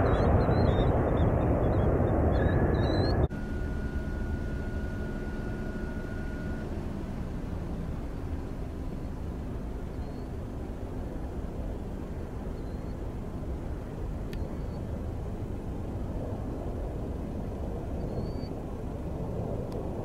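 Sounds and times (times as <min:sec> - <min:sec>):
distant jet engines rumbling: 0:00.0 - 0:20.0
faint thin whine: 0:00.0 - 0:20.0.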